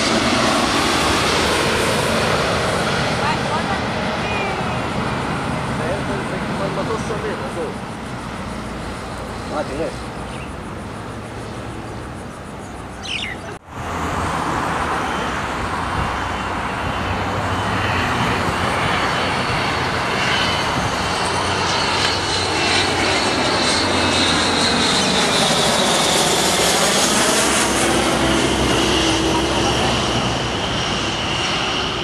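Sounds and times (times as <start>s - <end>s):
jet rumble with turbine whine: 0.0s - 32.0s
road traffic noise: 0.0s - 32.0s.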